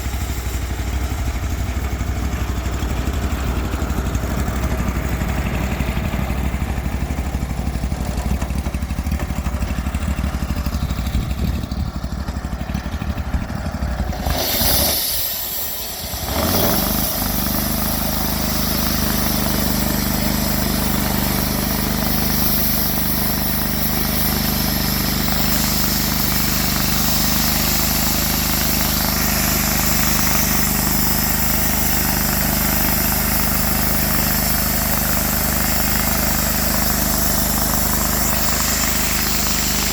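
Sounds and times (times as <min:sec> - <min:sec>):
loud hiss: 0:00.0 - 0:39.9
sawmill engine revving: 0:00.0 - 0:39.9.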